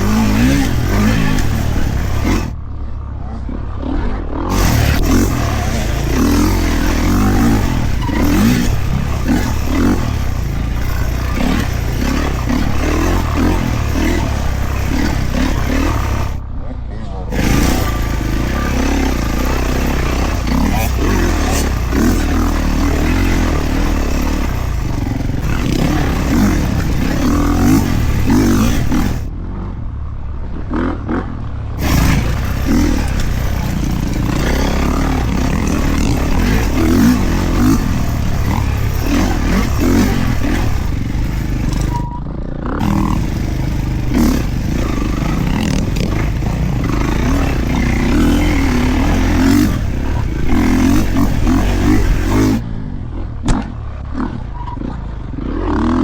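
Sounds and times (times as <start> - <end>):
dirt bike engine revving: 0.0 - 2.7, 3.5 - 16.6, 17.2 - 29.4, 31.8 - 56.0.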